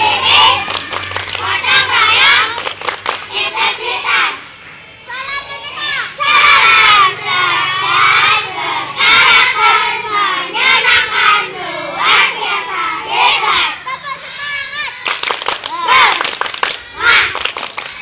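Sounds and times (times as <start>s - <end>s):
children chanting and shouting: 0.0s - 18.0s.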